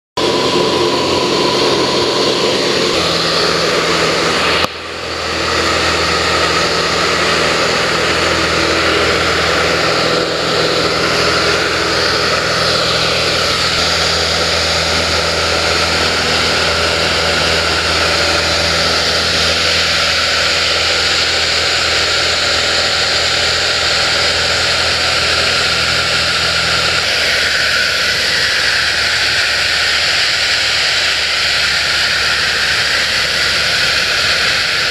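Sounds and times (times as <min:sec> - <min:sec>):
propeller airplane engine droning: 0:00.0 - 0:34.9.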